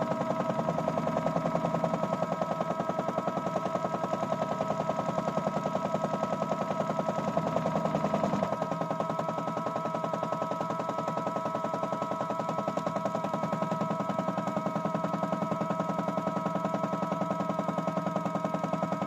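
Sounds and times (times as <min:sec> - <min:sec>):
toy washing machine running: 0:00.0 - 0:19.0.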